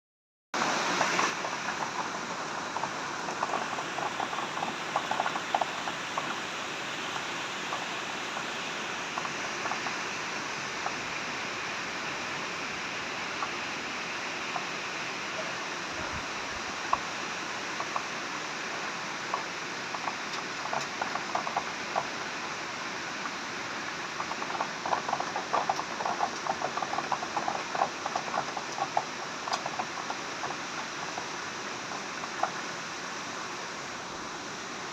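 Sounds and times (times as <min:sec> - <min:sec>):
heavy rain falling: 0:00.6 - 0:34.9
raindrop splashes: 0:00.7 - 0:33.4.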